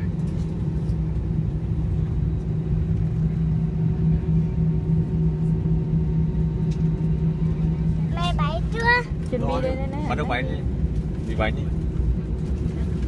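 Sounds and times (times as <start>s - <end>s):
airliner cabin engine drone: 0.0s - 13.0s
constant hum: 0.0s - 13.0s.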